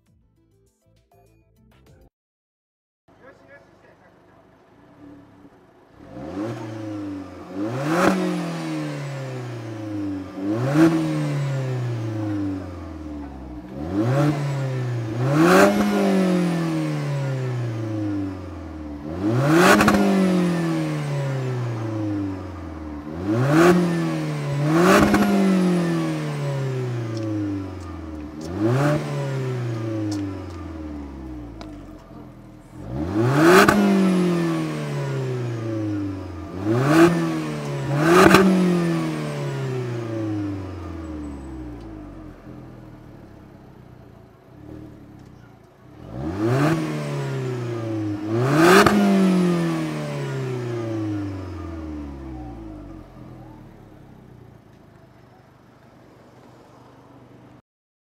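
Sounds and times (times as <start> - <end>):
car engine revving: 3.1 - 55.5.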